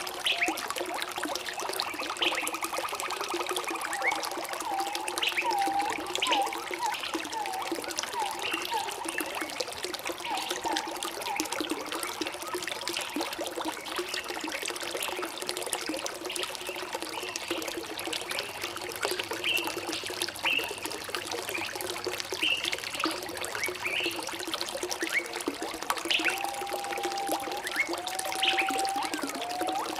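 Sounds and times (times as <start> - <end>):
water trickling over stones: 0.0 - 29.9.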